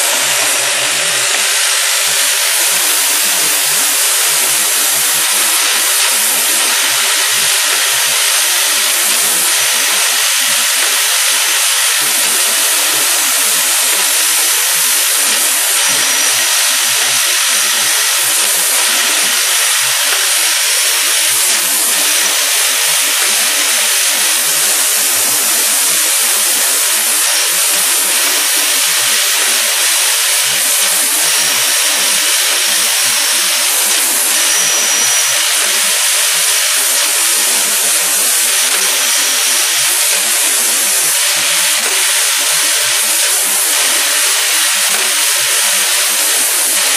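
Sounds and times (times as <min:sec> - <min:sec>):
high-pitched machine noise: 0:00.0 - 0:46.9.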